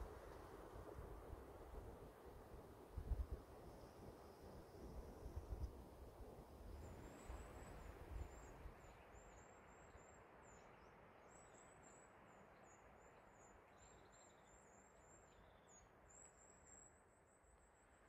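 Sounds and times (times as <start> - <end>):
outdoor ambience hiss: 0.0 - 18.0.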